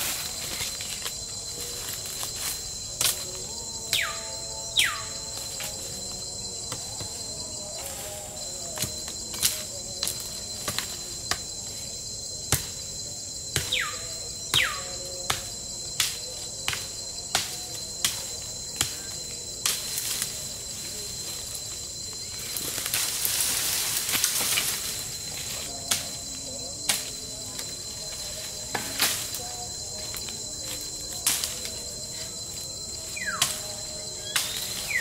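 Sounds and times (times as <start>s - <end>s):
jungle insects droning: 0.0s - 35.0s.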